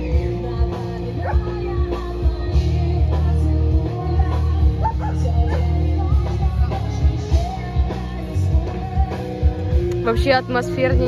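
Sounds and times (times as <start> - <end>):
live rock music with singing: 0.0 - 11.0.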